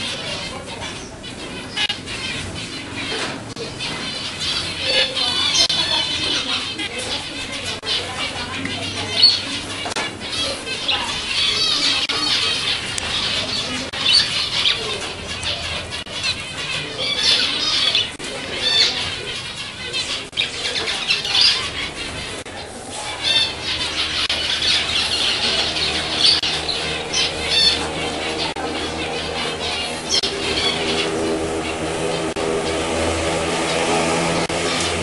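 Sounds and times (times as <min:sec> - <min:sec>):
finches chirping: 0:00.0 - 0:35.0.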